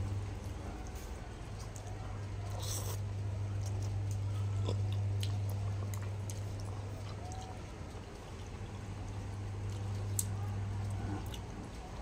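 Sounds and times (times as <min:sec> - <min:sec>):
steady low hum: 0:00.0 - 0:12.0
person chewing: 0:00.2 - 0:12.0.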